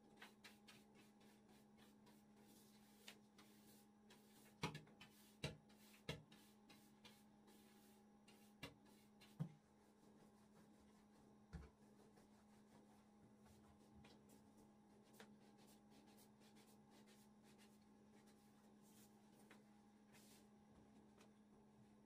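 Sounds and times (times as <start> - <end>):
hand brush sweeping wood: 0.2 - 20.5.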